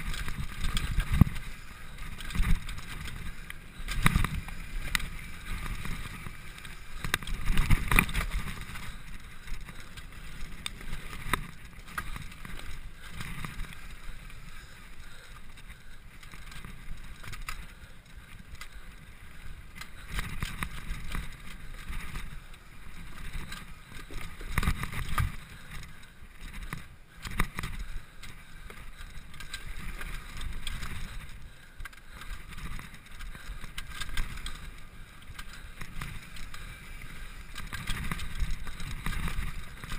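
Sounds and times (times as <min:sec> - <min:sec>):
bike clattering over bumps: 0:00.0 - 0:39.9
bike tyres rolling over dirt: 0:00.0 - 0:39.9.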